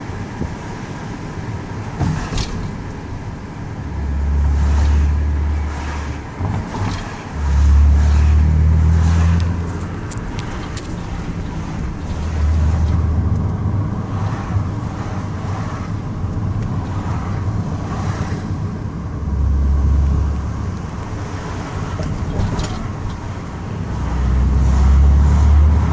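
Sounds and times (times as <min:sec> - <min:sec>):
road and wind noise: 0:00.0 - 0:25.9
deep rumble: 0:02.1 - 0:25.9.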